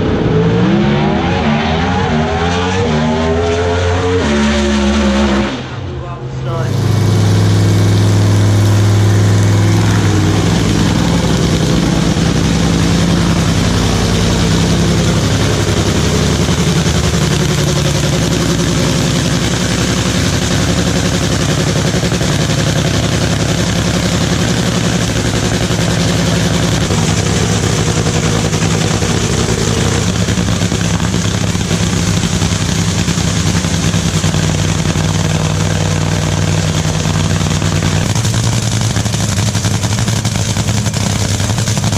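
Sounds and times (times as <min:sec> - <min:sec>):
racing car engine idling: 0:04.8 - 0:41.9.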